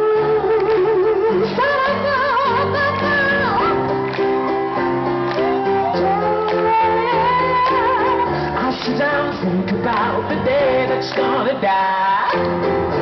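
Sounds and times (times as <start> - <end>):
high wordless singing with vibrato: 0.0 - 4.0, 5.4 - 13.0
live pop band playing: 0.0 - 13.0.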